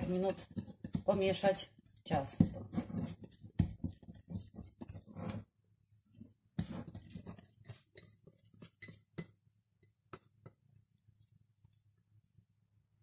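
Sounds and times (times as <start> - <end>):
hand squelching wet dough: 0.0 - 5.2, 5.8 - 12.7.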